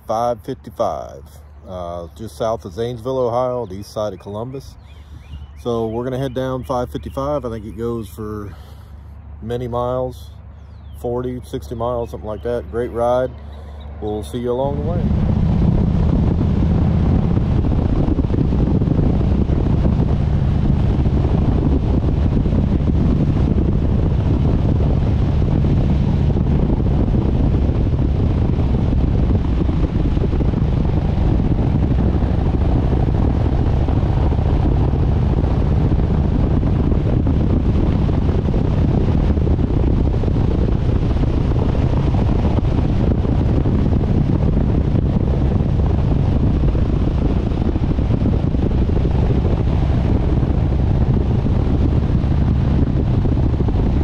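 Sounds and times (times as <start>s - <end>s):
motorcycle engine running steadily: 0.0s - 54.0s
wind buffeting microphone: 0.0s - 54.0s.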